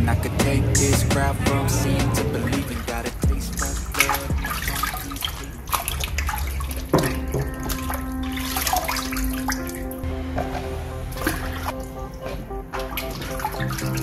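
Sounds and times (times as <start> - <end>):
background music: 0.0 - 14.0
water sloshing and splashing: 2.0 - 14.0.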